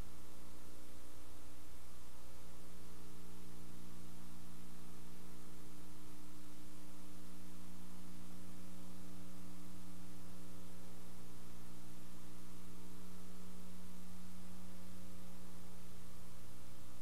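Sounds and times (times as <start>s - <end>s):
electrical hum: 0.0s - 17.0s
recording hiss: 0.0s - 17.0s.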